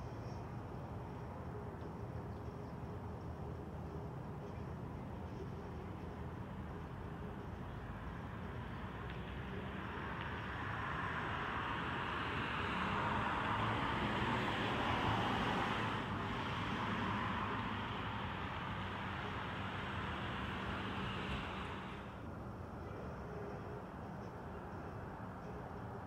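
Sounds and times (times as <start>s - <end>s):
road traffic hiss: 0.0s - 26.0s.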